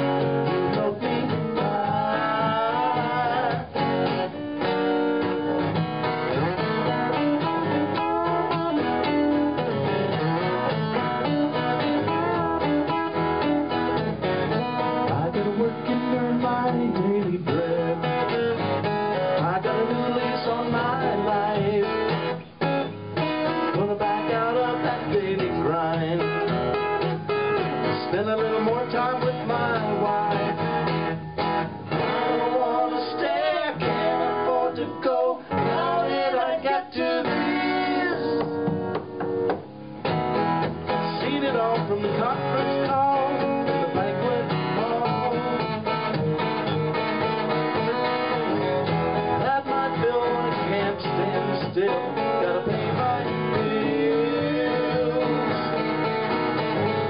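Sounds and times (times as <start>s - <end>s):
acoustic guitar: 0.0s - 57.0s
lead guitar with bending notes: 0.0s - 57.0s.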